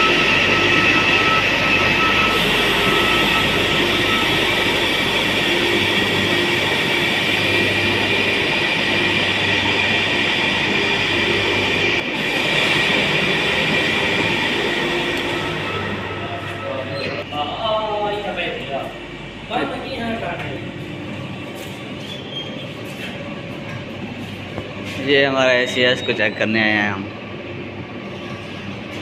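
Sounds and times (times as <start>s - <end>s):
industrial machinery drone: 0.0s - 29.0s.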